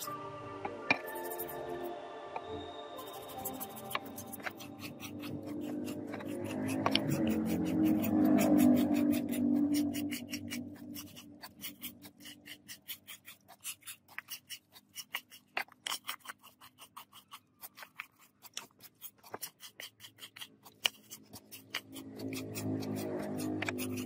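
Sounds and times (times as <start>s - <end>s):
scouring pad scrubbing metal: 3.0s - 24.0s.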